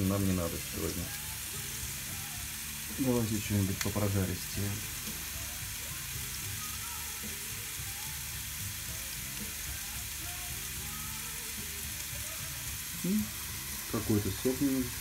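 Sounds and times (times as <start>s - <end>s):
steak sizzling on a grill: 0.0s - 15.0s.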